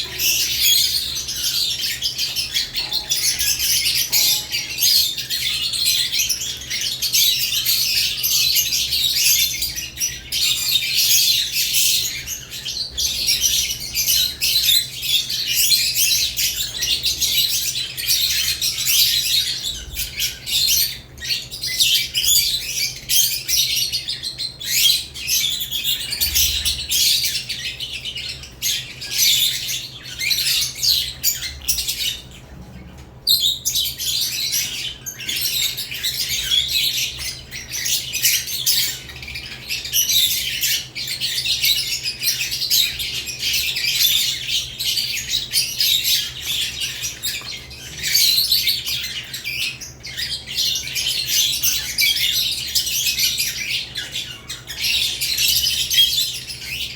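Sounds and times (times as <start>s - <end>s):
lovebirds chirping and squawking: 0.0s - 56.9s.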